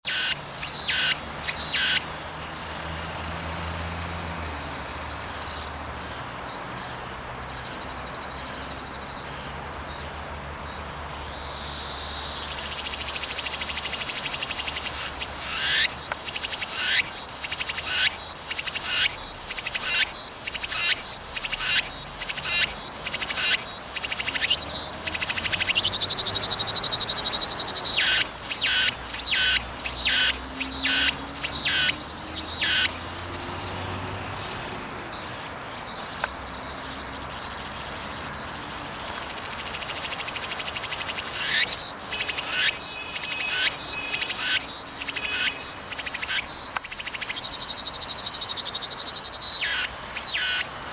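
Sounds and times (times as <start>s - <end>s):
cicada pulsing song: 0.0s - 50.9s
cicadas buzzing: 0.0s - 50.9s.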